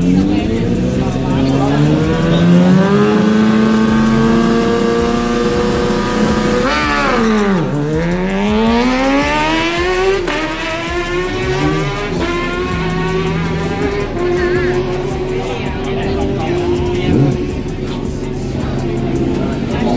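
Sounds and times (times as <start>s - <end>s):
motorbike engines revving high: 0.0s - 19.9s
motorbike passing by: 0.0s - 19.9s.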